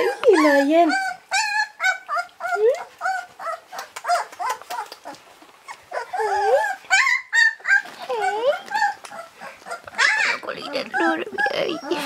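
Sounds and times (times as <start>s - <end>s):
puppies whining and yelping: 0.0s - 12.0s.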